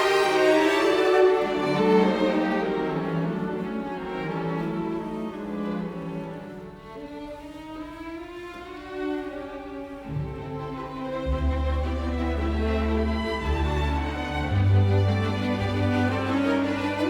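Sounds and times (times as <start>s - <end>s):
violin and cello sustained notes: 0.0s - 17.0s.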